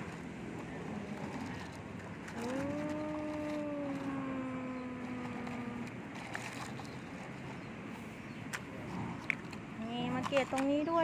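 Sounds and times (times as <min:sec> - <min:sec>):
running machine noise: 0:00.0 - 0:11.0.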